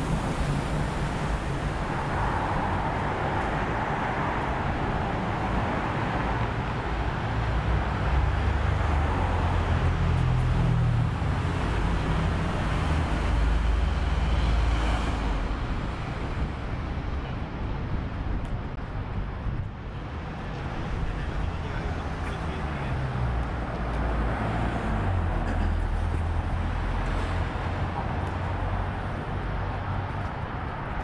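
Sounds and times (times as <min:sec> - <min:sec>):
city street traffic: 0:00.0 - 0:31.0
low traffic rumble: 0:00.0 - 0:31.0.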